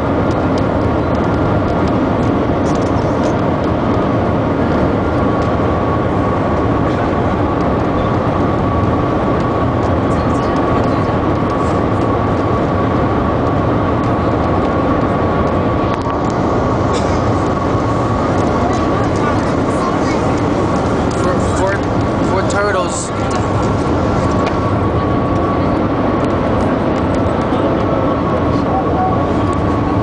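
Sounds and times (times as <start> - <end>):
steady rushing train noise: 0.0 - 30.0.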